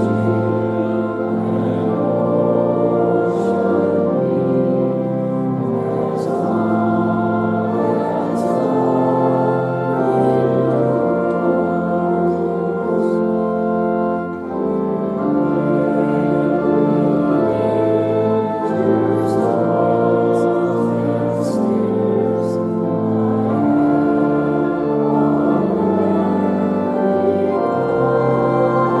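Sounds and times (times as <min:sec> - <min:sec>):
organ playing a slow hymn: 0:00.0 - 0:29.0.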